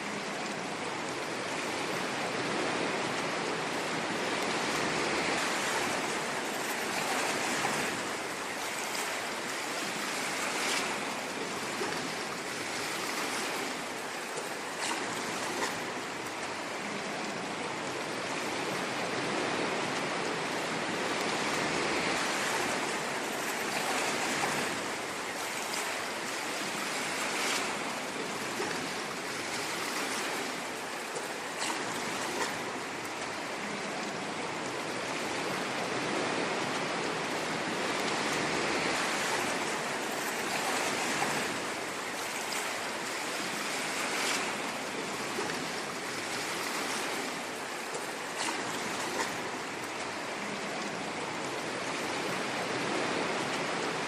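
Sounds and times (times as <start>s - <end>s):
ocean waves surf: 0.0s - 54.0s.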